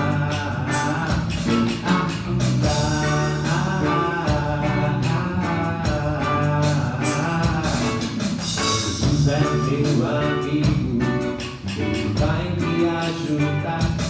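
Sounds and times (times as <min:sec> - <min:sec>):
guitar accompaniment: 0:00.0 - 0:14.0
person singing: 0:00.0 - 0:14.0.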